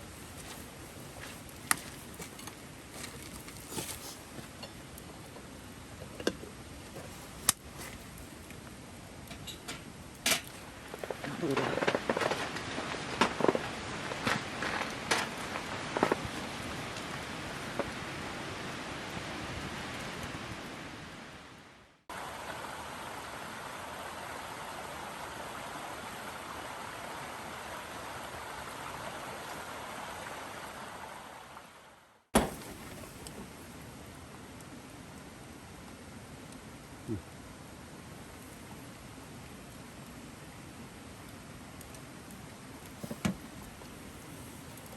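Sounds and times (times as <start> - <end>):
campfire crackling: 0.0 - 44.9
steady rain falling: 0.0 - 44.9.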